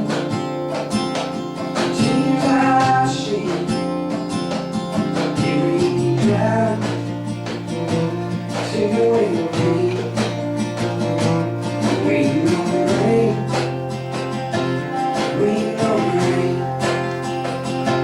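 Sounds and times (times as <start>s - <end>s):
acoustic country band playing: 0.0s - 18.0s
acoustic guitar strumming: 0.0s - 18.0s.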